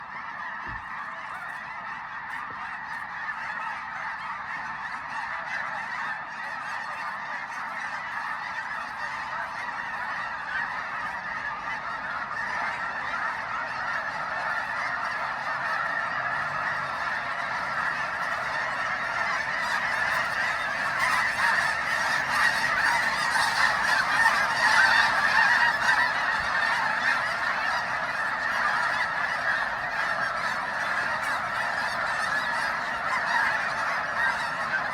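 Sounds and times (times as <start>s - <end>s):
geese honking: 0.0s - 34.9s.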